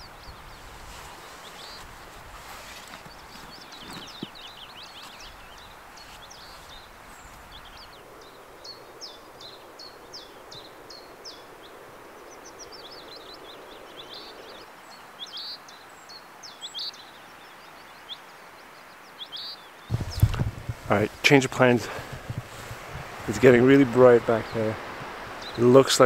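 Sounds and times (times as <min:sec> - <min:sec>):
background hiss: 0:00.0 - 0:26.0
small songbirds singing: 0:00.0 - 0:26.0.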